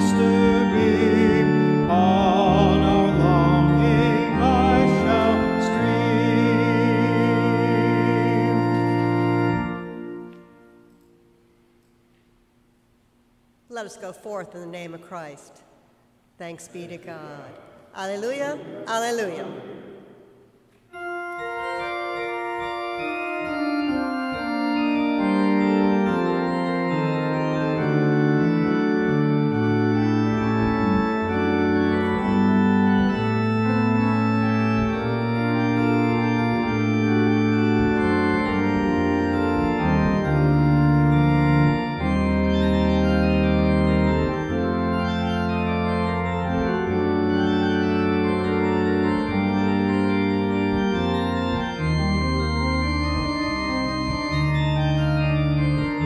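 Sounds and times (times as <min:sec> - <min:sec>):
deep organ bass notes: 0:00.0 - 0:10.9, 0:18.5 - 0:56.0
organ playing sustained chords: 0:00.0 - 0:56.0.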